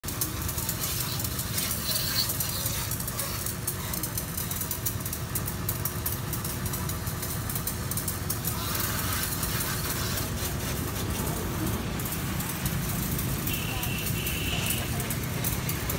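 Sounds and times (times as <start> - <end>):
pressure washer motor drone: 0.0 - 15.9
water jet hissing: 0.1 - 5.3, 6.5 - 15.9.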